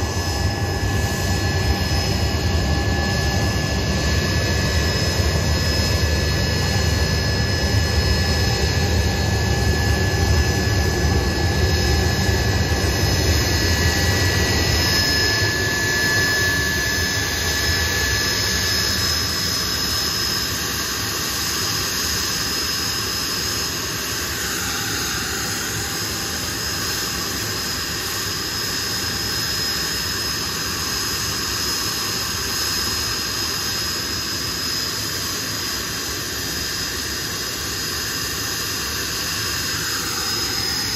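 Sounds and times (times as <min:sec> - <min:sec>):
jet engines whining and rumbling: 0:00.0 - 0:40.9.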